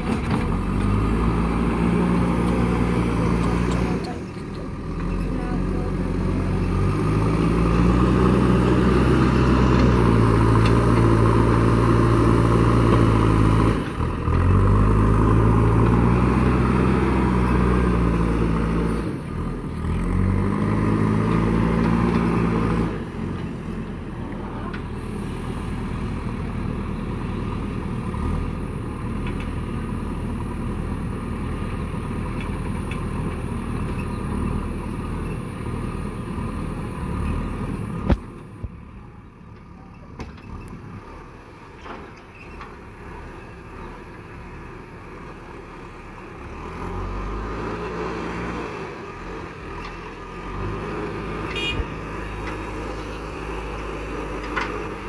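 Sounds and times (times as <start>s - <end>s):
diesel engine working under load: 0.0s - 55.0s.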